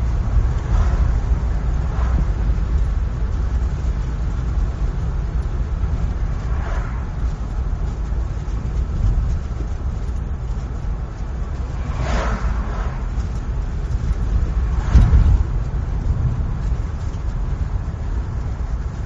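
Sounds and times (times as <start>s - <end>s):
car road and tyre rumble: 0.0s - 19.0s
vehicles passing: 0.0s - 19.0s.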